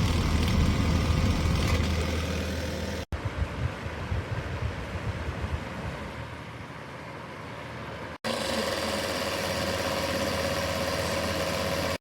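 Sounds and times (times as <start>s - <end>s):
electric fan heater whirring: 0.0s - 6.0s, 8.3s - 12.0s.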